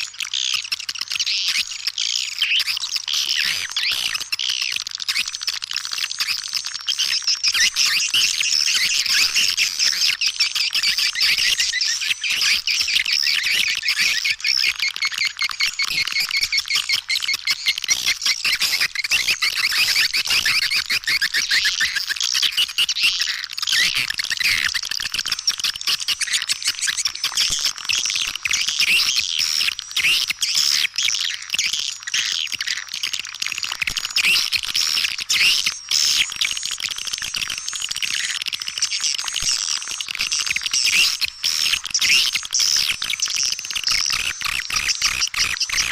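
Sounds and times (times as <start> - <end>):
swiftlets twittering and chirping: 0.0 - 45.9.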